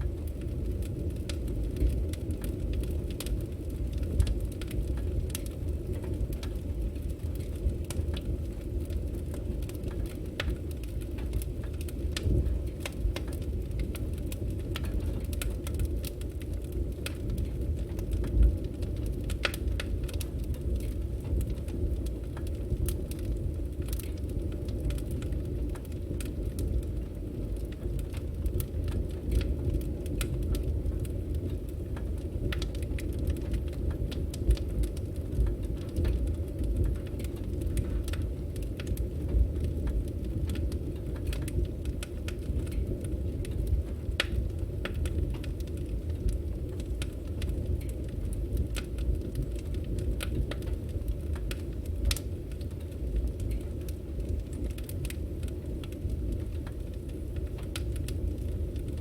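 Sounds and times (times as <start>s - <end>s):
firewood burning and crackling: 0.0s - 59.0s.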